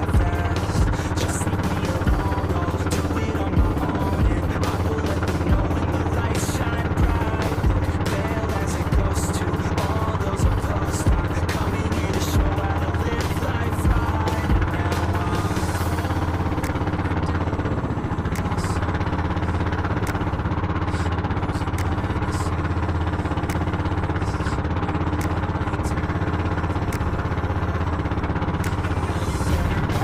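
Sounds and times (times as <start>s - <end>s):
boat engine running steadily: 0.0s - 30.0s.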